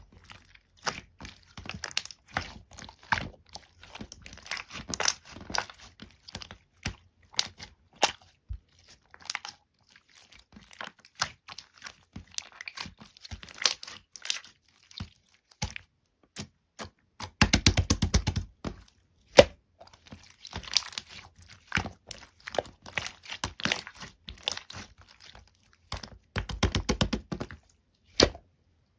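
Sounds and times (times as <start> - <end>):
slime squelching: 0.0 - 28.9.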